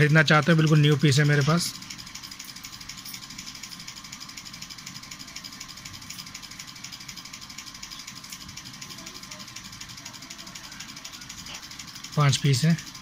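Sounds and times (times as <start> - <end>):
fast mechanical ticking: 0.0 - 13.0.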